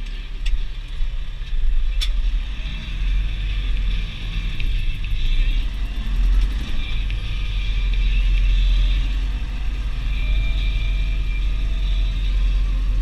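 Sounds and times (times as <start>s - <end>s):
tractor diesel engine rumble: 0.0s - 13.0s.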